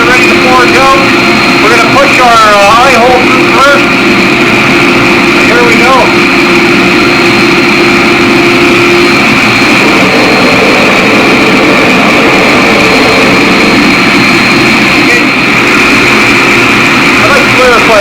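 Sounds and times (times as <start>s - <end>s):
forge fire rushing: 0.0s - 18.0s.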